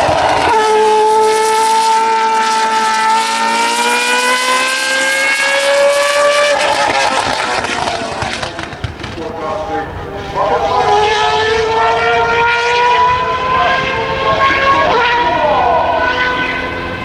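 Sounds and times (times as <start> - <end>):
engine crackling: 0.0 - 17.0
race car engine at high revs: 0.0 - 17.0.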